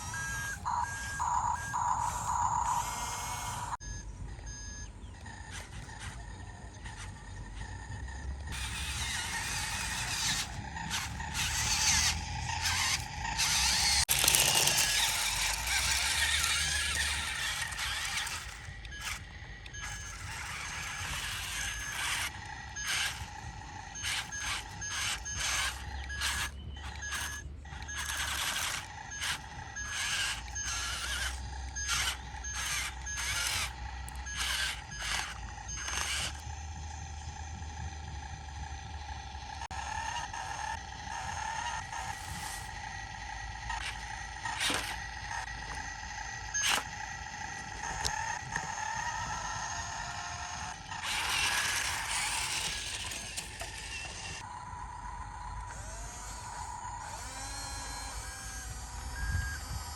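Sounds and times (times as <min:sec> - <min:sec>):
rapid pulsing warning beep: 0:00.0 - 0:14.0, 0:14.7 - 0:54.4
excavator engine running: 0:00.0 - 0:59.9.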